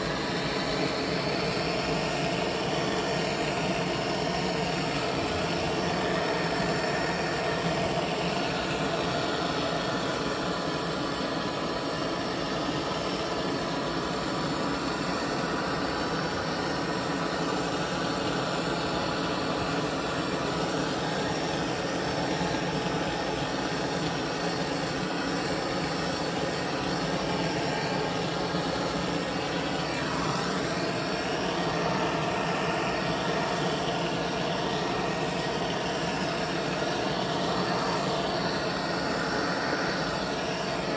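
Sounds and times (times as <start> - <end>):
gas torch flame burning: 0.0 - 40.9.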